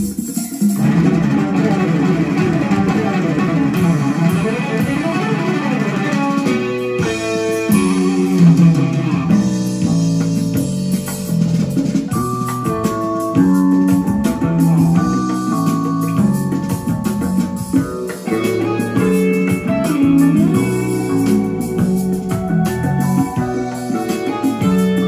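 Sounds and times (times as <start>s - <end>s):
jazz fusion music over loudspeakers: 0.0s - 25.0s.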